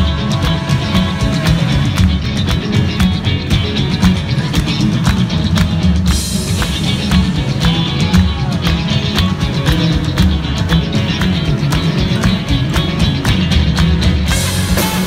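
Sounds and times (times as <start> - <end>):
drums keeping a beat: 0.0 - 15.0
electric guitars: 0.0 - 15.0.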